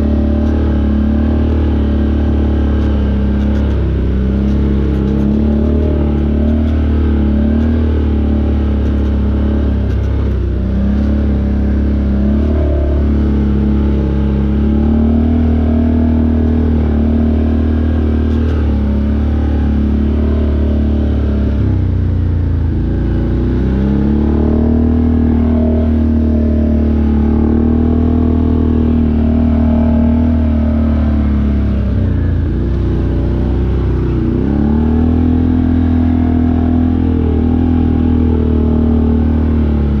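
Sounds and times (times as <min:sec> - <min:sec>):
off-road vehicle engine running: 0:00.0 - 0:40.0.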